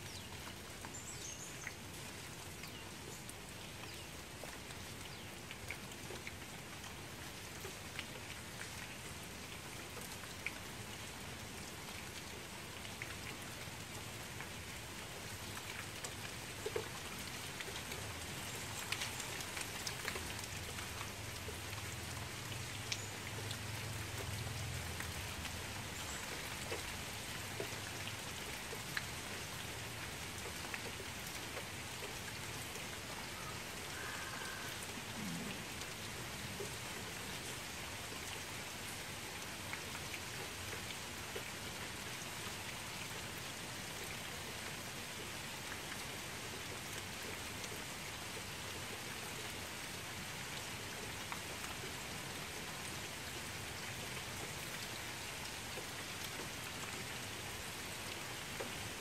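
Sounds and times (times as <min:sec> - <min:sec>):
rain falling on water: 0:00.0 - 0:59.0.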